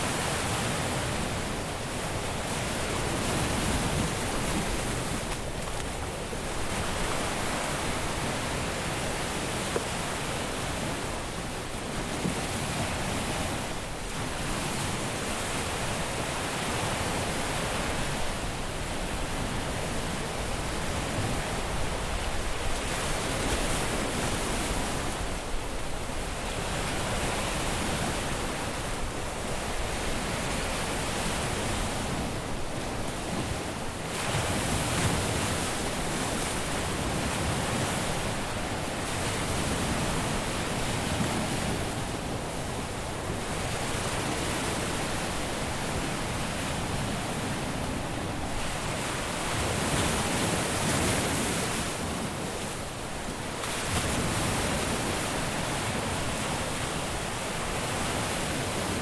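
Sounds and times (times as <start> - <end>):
surf breaking on a beach: 0.0 - 59.0.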